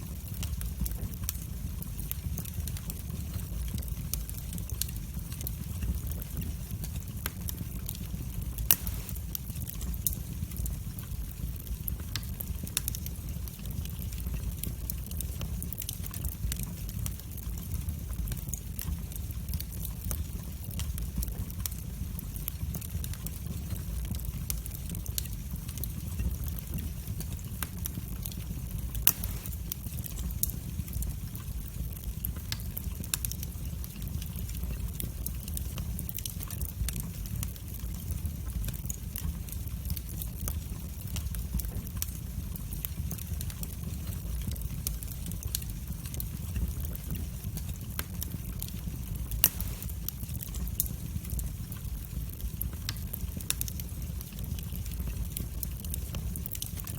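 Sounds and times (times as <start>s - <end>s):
fire crackles and pops: 0.0s - 56.9s
fire rumbling: 0.0s - 56.9s.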